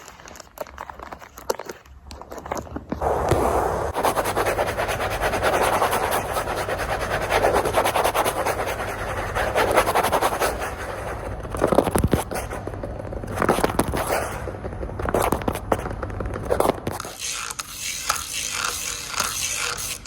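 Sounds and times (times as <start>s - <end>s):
fingernails scratching a surface: 3.0s - 12.7s, 13.3s - 20.0s.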